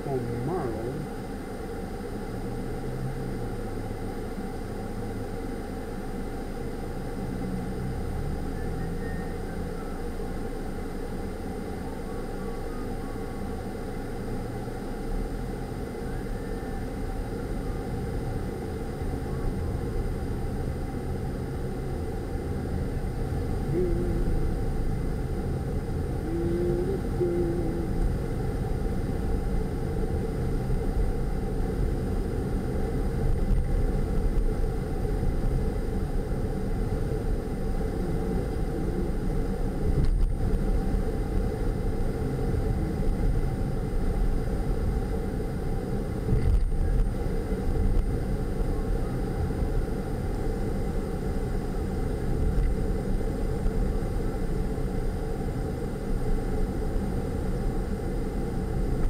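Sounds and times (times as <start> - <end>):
car driving from inside: 0.0 - 59.0.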